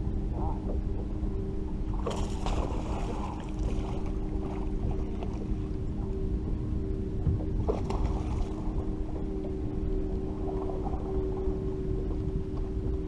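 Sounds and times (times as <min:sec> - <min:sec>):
boat motor humming: 0:00.0 - 0:13.0
wind and water rumble: 0:00.0 - 0:13.0.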